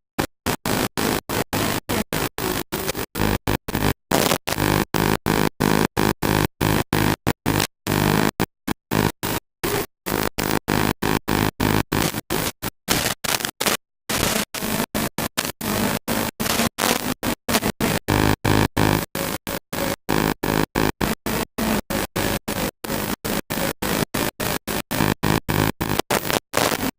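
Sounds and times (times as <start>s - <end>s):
static noise: 0.2s - 26.9s.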